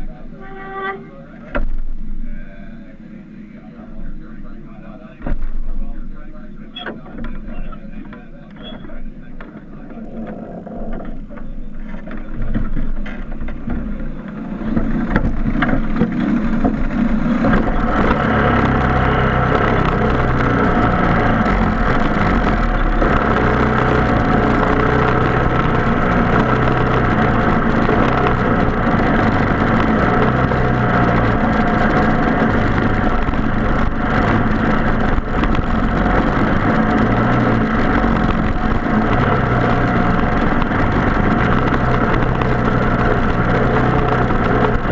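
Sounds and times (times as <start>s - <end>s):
kart engine running: 0.0s - 2.2s, 3.9s - 44.9s.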